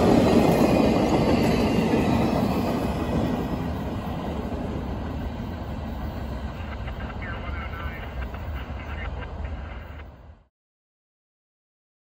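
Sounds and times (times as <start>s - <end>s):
train wheels rumbling on rails: 0.0s - 10.4s.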